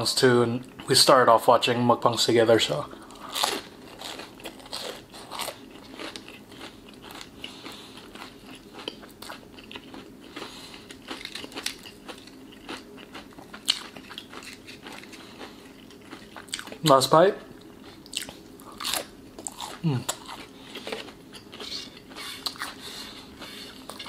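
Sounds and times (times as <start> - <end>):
chewing crispy chicken: 3.0 - 24.0.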